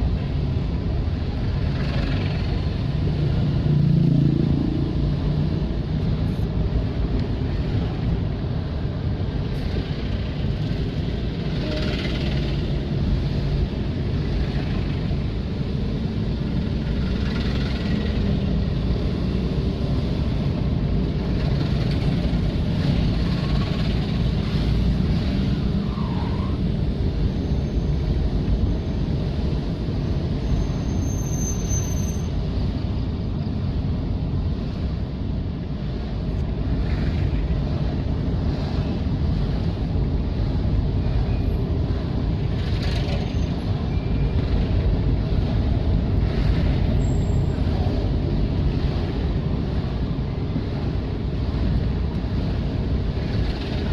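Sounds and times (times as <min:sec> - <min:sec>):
traffic engines rumbling: 0:00.0 - 0:53.9.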